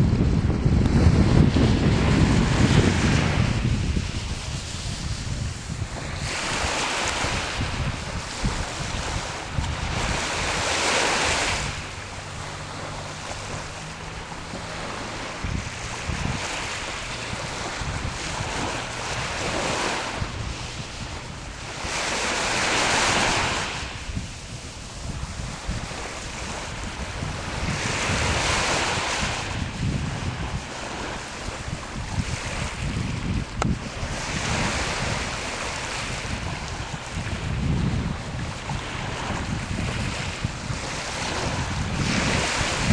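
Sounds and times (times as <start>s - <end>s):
sea waves washing onto shore: 0.0s - 42.9s
wind rumble on microphone: 0.0s - 42.9s.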